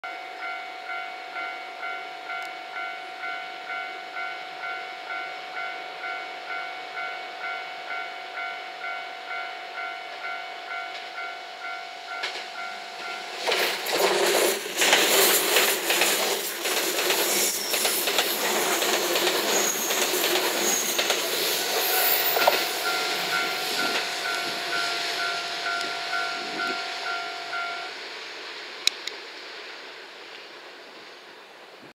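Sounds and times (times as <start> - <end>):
level-crossing warning bell: 0.0 - 28.1
train wheel and rail clatter: 0.4 - 28.1.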